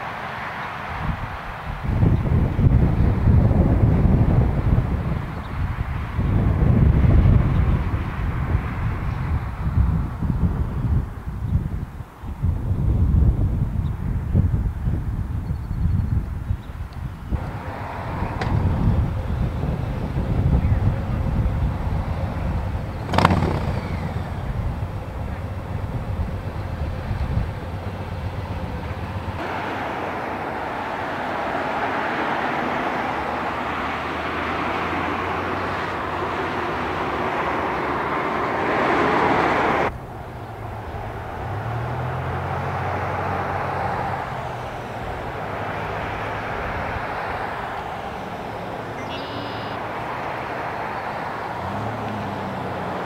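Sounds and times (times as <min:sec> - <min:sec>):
low engine rumble: 0:00.0 - 0:53.0
vehicles driving past: 0:00.0 - 0:53.0.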